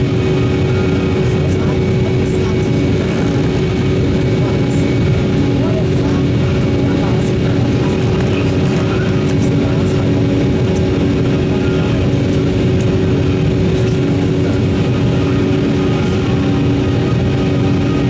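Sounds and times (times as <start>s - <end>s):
airliner cabin jet noise: 0.0s - 18.0s.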